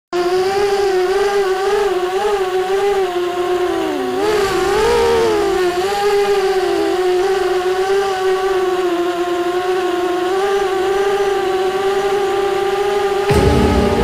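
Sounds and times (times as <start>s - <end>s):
quadcopter motors whining: 0.2s - 14.0s.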